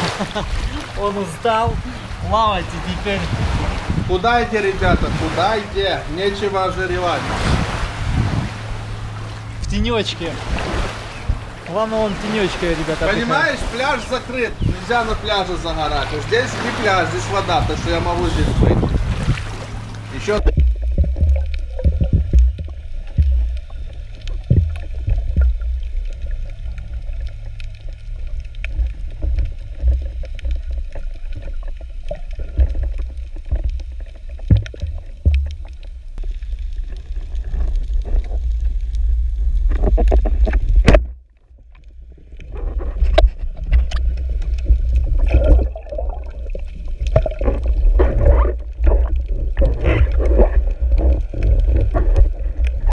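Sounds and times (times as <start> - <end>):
underwater rumble of moving water: 0.0 - 52.9
underwater clicks and crackles: 8.4 - 52.9.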